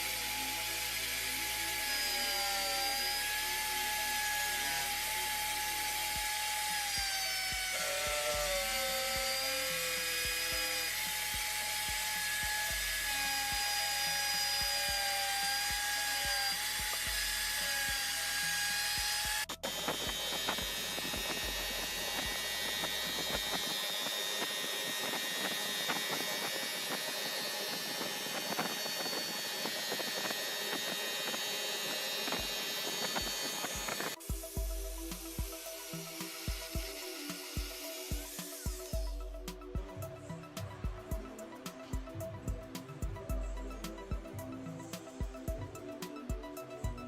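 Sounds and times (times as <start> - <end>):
power tool motor whining: 0.0 - 39.5
crackling tool sound: 0.0 - 43.0.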